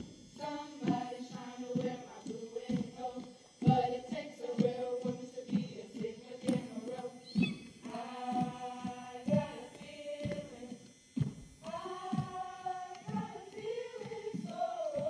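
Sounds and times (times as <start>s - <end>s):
women singing in unison: 0.4s - 10.9s, 11.6s - 15.0s.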